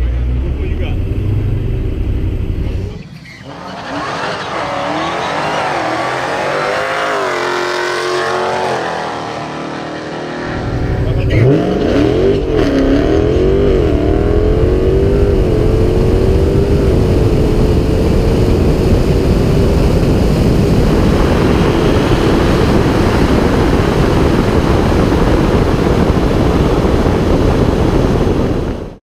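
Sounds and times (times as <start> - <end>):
car engine drone: 0.0 - 29.0
road and wind noise: 0.0 - 29.0.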